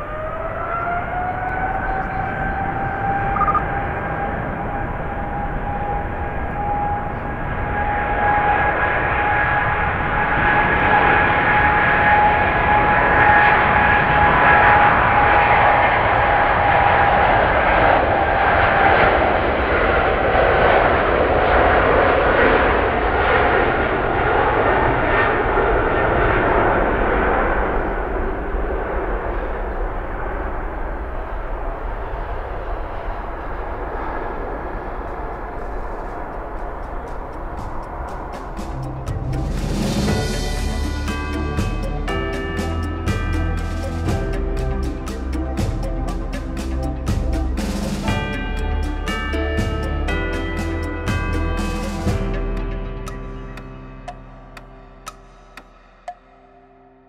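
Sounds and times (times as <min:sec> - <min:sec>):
jet engine rumbling roar: 0:00.0 - 0:53.0
jet engine whine: 0:00.0 - 0:57.0.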